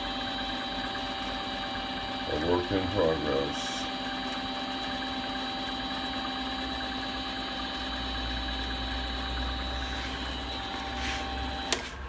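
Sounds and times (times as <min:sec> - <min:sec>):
lathe motor hum and whine: 0:00.0 - 0:12.0.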